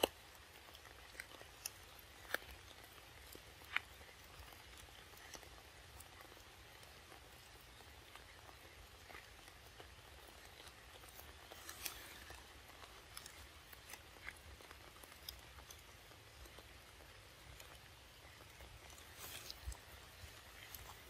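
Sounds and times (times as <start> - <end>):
monkey chewing fruit: 0.0 - 21.0.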